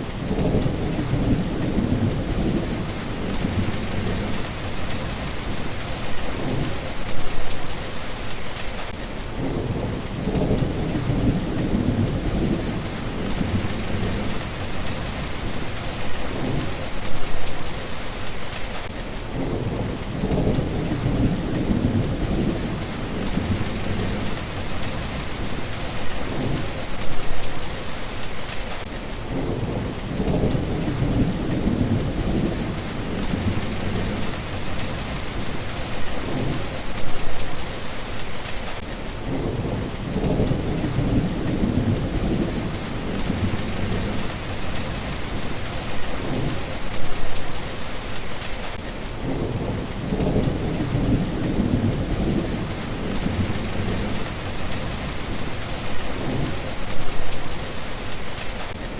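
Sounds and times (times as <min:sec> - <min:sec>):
low thunder rumbling: 0:00.0 - 0:07.6, 0:09.4 - 0:17.8, 0:19.3 - 0:27.8, 0:29.2 - 0:37.6, 0:39.2 - 0:47.8, 0:48.7 - 0:57.8
steady rain: 0:00.0 - 0:58.9
wind: 0:00.0 - 0:58.9.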